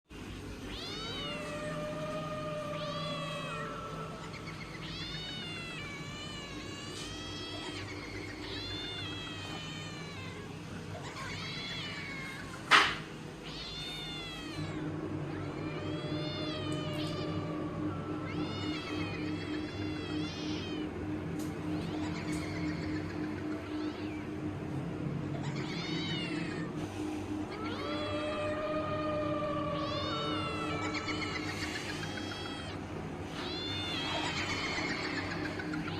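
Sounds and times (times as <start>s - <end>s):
low steady drone: 0.1s - 35.9s
cat yowling and meowing: 0.6s - 35.9s.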